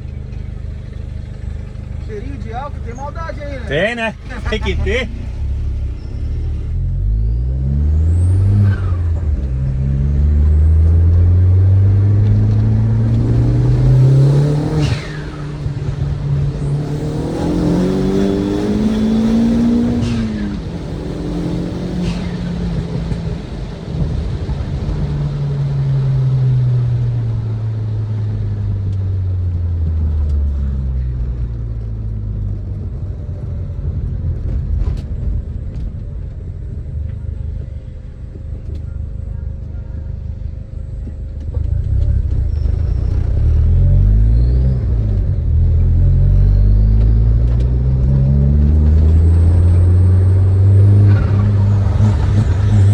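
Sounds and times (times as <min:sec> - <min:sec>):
turbocharged car engine revving: 0:00.0 - 0:35.8, 0:37.1 - 0:52.9.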